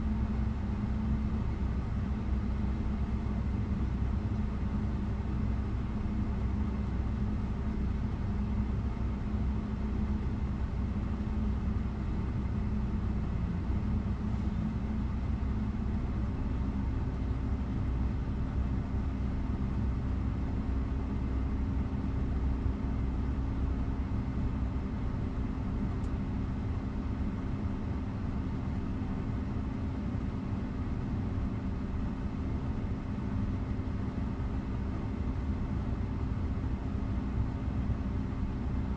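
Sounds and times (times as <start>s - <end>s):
car climate fan humming: 0.0s - 38.9s.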